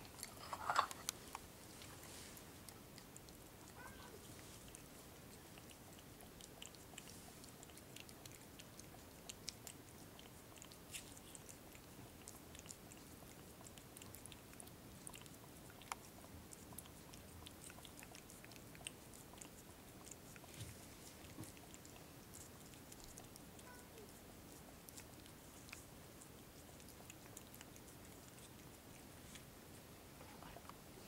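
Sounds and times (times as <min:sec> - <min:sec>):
cat licking and lapping: 0:00.0 - 0:31.0.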